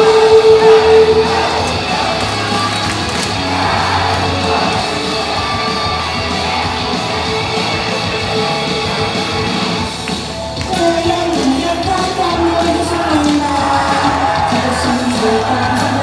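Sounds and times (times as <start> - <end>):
crowd shouting: 0.0 - 9.2, 11.9 - 16.0
pop rock song over pa: 0.0 - 16.0.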